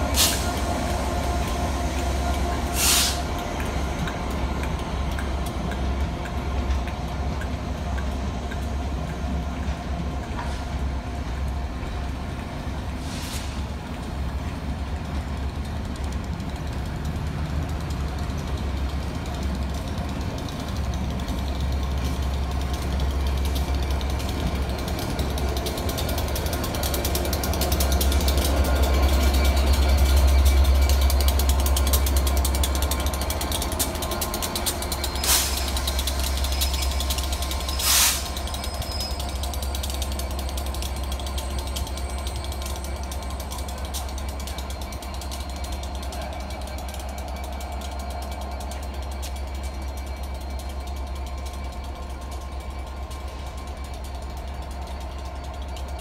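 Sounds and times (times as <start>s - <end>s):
train wheels rattling and creaking: 0.0s - 56.0s.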